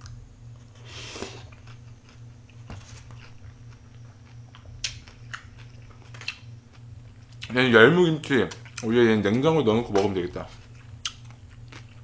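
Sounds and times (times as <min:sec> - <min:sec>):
person chewing wet food: 0:00.0 - 0:07.6, 0:08.5 - 0:08.9, 0:09.9 - 0:12.0.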